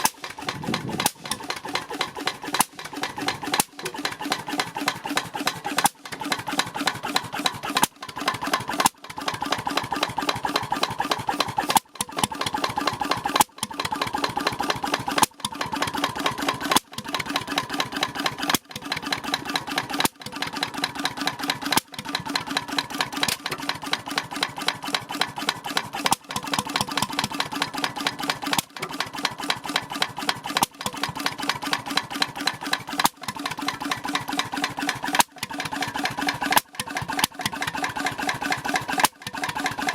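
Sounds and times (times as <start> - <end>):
portable engine clattering: 0.0 - 39.9.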